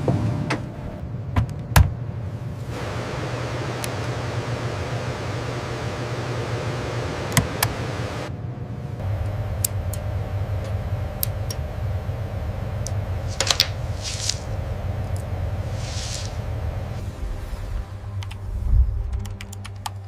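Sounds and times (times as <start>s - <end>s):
steady low hum: 2.0s - 20.0s.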